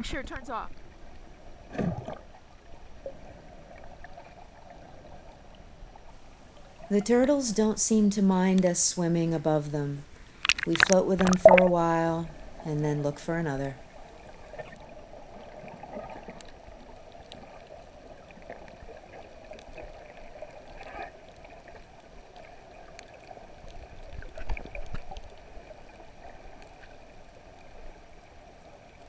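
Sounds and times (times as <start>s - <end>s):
underwater water noise: 0.7s - 29.0s.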